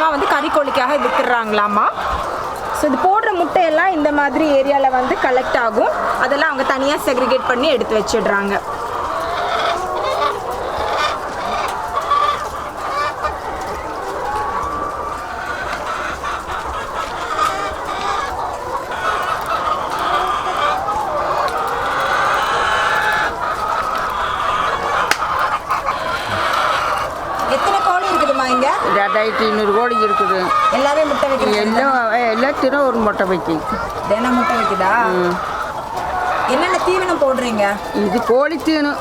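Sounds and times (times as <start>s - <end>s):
hens clucking and squawking: 0.0s - 39.0s.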